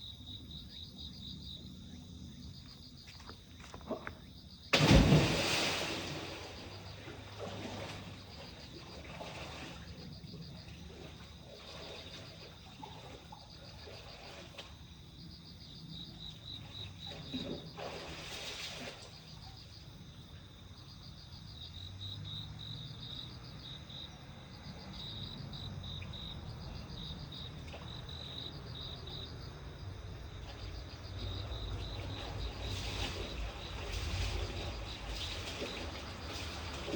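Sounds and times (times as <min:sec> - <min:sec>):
low outdoor hum: 0:00.0 - 0:36.9.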